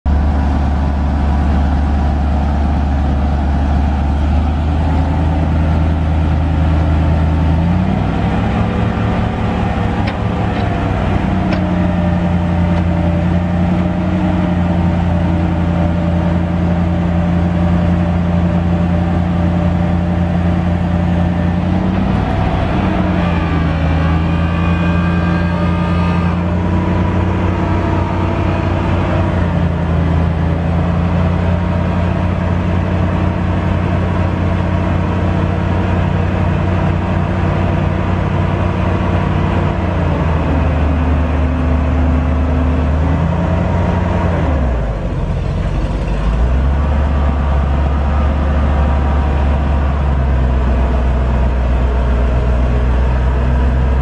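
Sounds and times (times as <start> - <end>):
truck engine running: 0.1 - 54.0.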